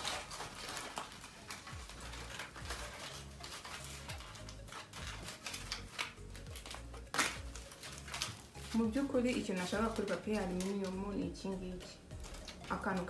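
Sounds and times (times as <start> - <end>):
aluminium foil crinkling: 0.0 - 13.0
quiet background music: 0.0 - 13.0.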